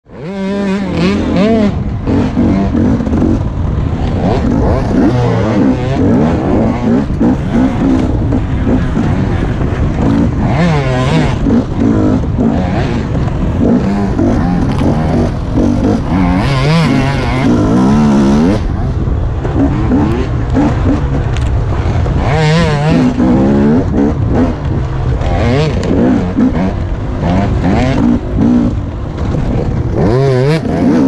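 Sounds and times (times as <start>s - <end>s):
wind noise: 0.0s - 31.0s
dirt bike engine revving: 0.1s - 31.0s.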